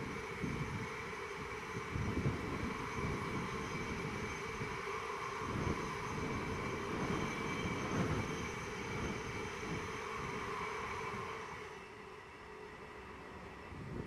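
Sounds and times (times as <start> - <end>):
train wheels rolling on rail: 0.0 - 14.0.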